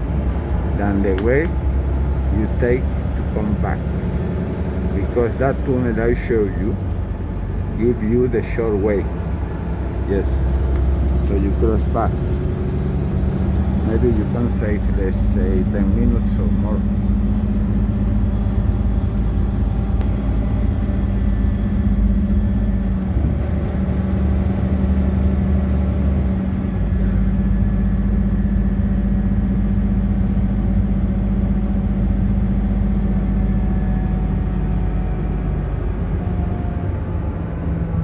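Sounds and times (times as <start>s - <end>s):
bus engine and road drone: 0.0s - 38.0s.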